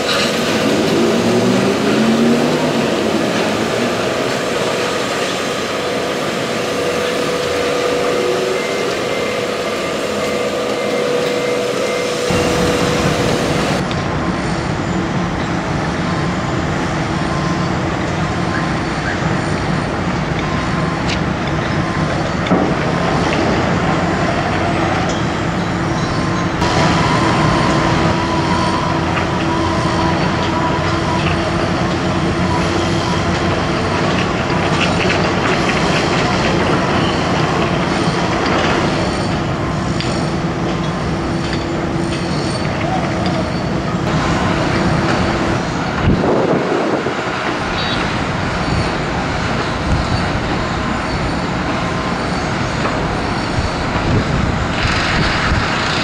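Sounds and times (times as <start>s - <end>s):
construction machinery engines humming: 0.0s - 56.0s.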